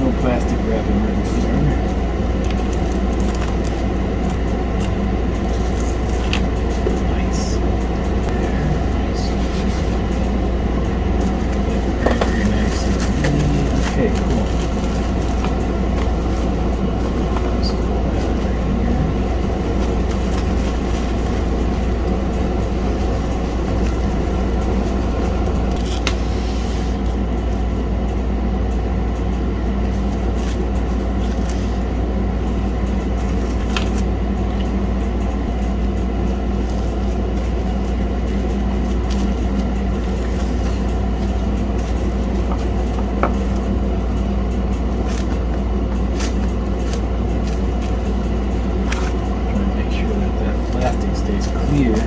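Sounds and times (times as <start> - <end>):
low hum: 0.0 - 52.0
steady mechanical drone: 0.0 - 52.0.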